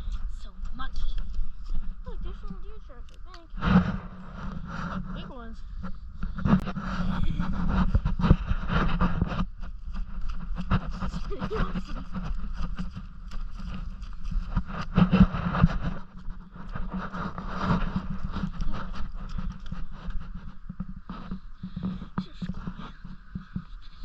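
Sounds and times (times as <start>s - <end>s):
footsteps in wet mud: 0.0s - 24.0s
knocks and scrapes: 0.0s - 24.0s.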